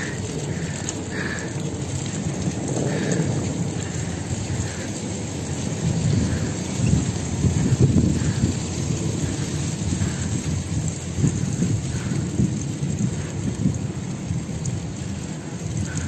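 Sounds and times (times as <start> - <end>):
tyres rolling through slushy snow: 0.0 - 16.0
wind buffeting the microphone: 0.0 - 16.0.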